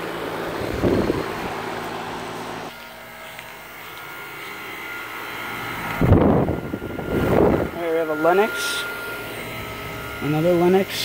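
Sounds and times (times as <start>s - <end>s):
air conditioner fan and compressor hum: 0.0s - 11.0s
steady machine whine: 0.0s - 11.0s.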